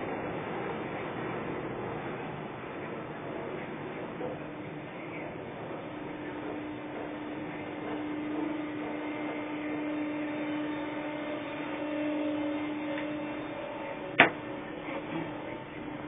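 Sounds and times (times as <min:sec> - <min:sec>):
machine hum with high overtone: 0:00.0 - 0:16.0.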